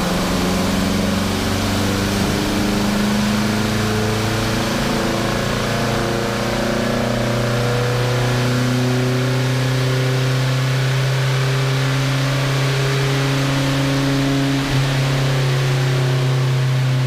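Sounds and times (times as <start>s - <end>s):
car engine running under load: 0.0s - 17.0s.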